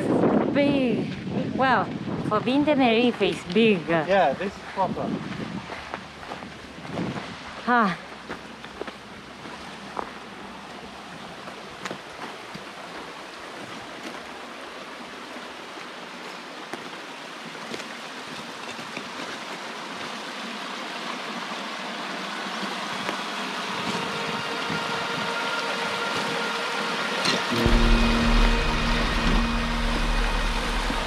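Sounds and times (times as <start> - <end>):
water rushing in stone channel: 0.0 - 31.0.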